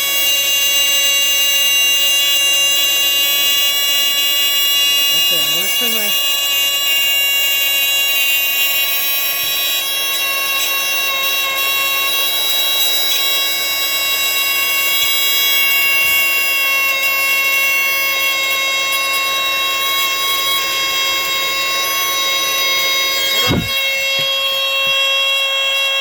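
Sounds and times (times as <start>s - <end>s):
fire alarm steady tone: 0.0s - 26.0s.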